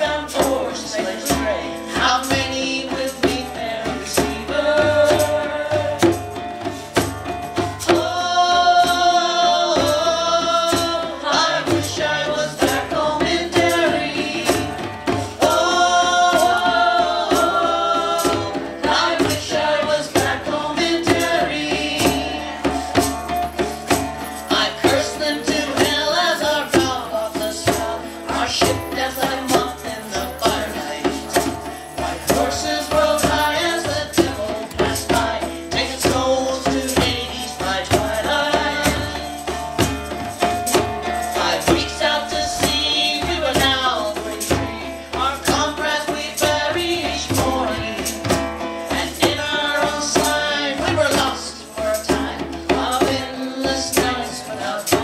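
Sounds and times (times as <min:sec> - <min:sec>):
voices singing: 0:00.0 - 0:06.8, 0:07.6 - 0:55.0
acoustic guitar: 0:00.0 - 0:55.0
hand drums beating: 0:00.0 - 0:55.0.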